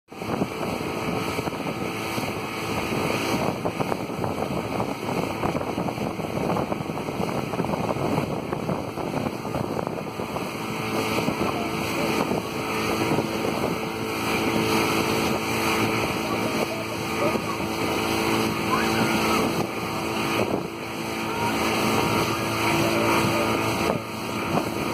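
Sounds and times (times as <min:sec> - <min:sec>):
boat motor humming: 0:00.1 - 0:24.9
rush of wind and water: 0:00.1 - 0:24.9
wind buffeting microphone: 0:00.1 - 0:24.9.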